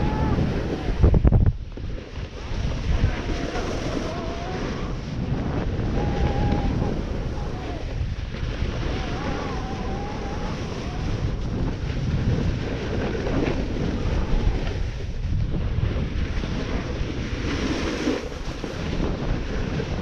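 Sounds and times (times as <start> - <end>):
snowboard scraping over snow: 0.0 - 20.0
wind buffeting microphone: 0.0 - 20.0.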